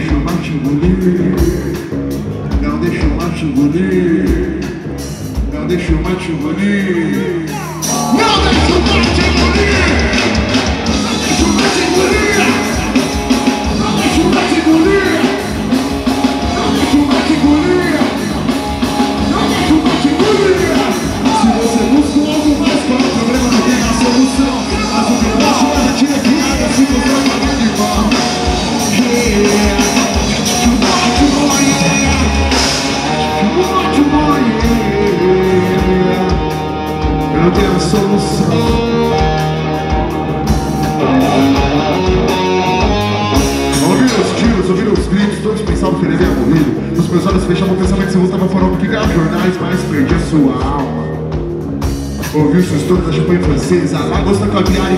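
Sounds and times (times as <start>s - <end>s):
distorted electric guitar: 0.0s - 54.9s
rock music with singer: 0.0s - 54.9s
steady drum beat: 0.0s - 54.9s.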